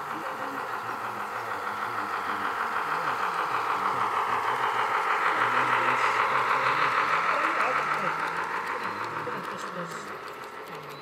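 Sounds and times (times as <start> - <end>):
model train running on rails: 0.0 - 11.0.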